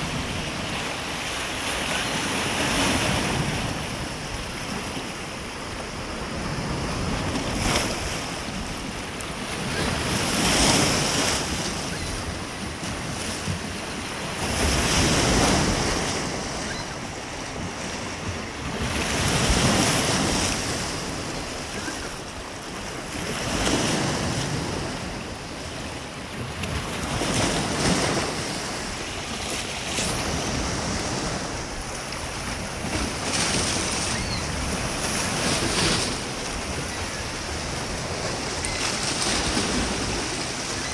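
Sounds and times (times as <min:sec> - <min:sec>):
waves washing against rocky shore: 0:00.0 - 0:40.9.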